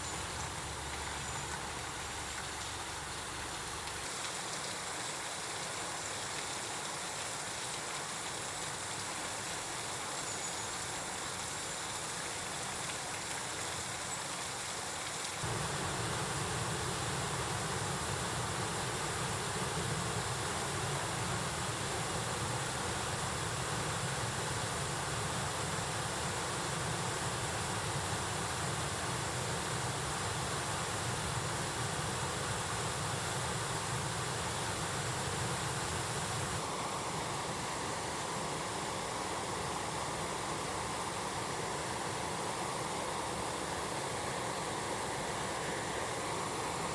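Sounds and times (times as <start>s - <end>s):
stream flowing over rocks: 0.0s - 46.9s.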